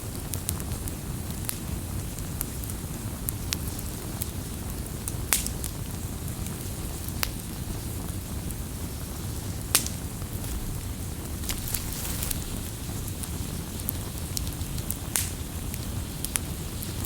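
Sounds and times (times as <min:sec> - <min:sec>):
burning wood crackling and popping: 0:00.0 - 0:17.0
flames rumbling: 0:00.0 - 0:17.0.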